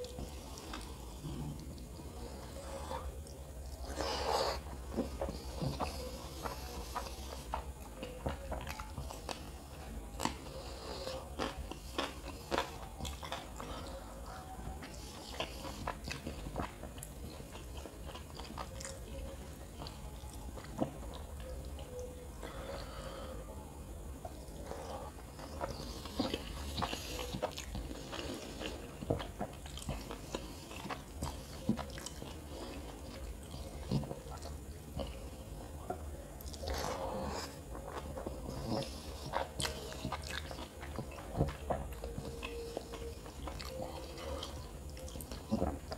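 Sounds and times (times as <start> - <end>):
chewing and crunching: 0.0 - 45.9.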